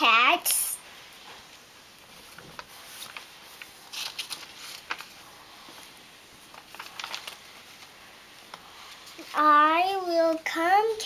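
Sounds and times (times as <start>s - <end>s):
book pages rustling: 1.1s - 10.4s.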